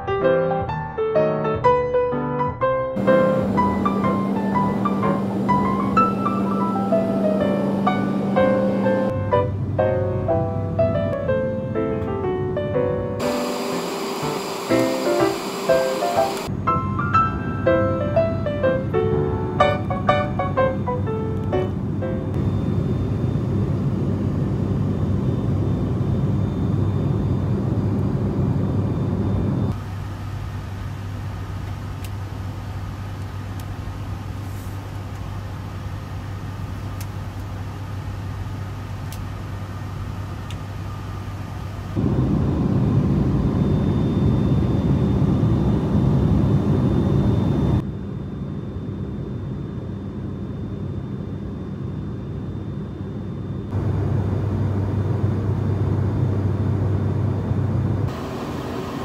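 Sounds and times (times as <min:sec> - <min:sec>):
airplane cabin propeller drone: 0:03.0 - 0:59.0.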